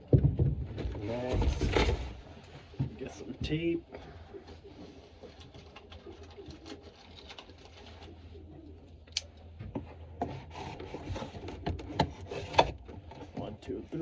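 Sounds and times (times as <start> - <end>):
pigeon cooing: 1.0 - 12.6.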